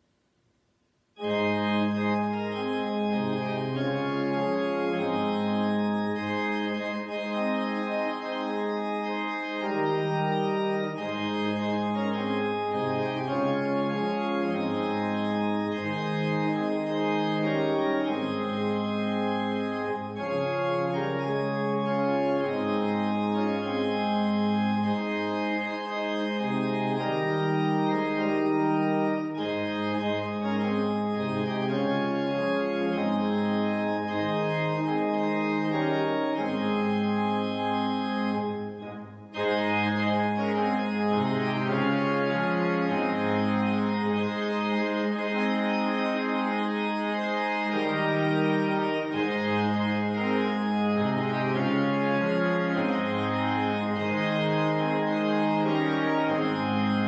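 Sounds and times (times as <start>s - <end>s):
organ playing a hymn: 1.2s - 57.0s.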